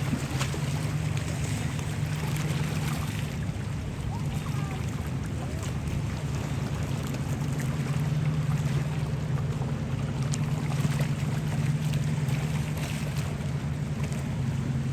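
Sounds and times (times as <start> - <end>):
boat engine running: 0.0 - 14.9.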